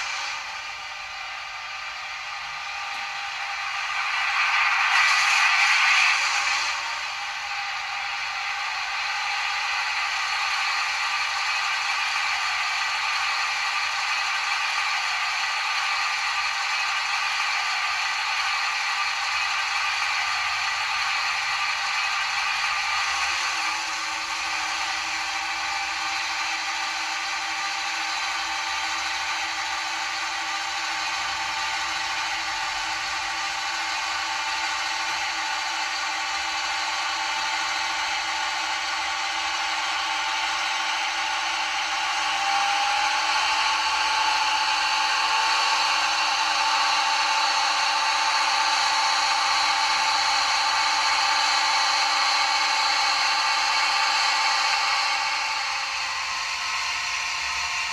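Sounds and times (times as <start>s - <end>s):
diesel engine sound from small speaker: 0.0s - 57.9s
rising whine: 0.0s - 57.9s.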